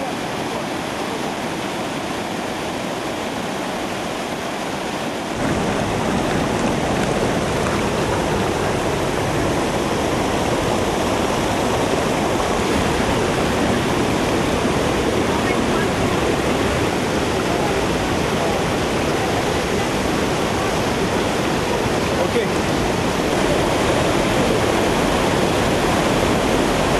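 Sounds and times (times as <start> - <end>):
floodwater rushing: 0.0 - 26.9.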